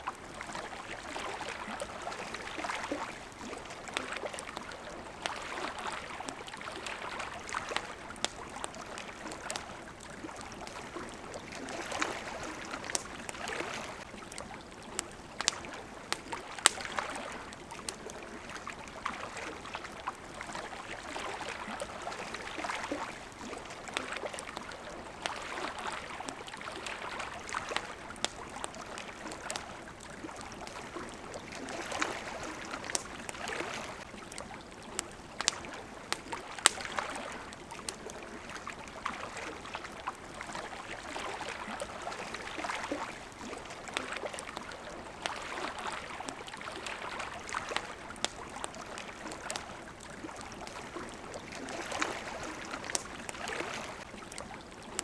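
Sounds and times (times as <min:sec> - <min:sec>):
campfire crackling and popping: 0:00.0 - 0:55.0
water lapping at shore: 0:00.0 - 0:55.0.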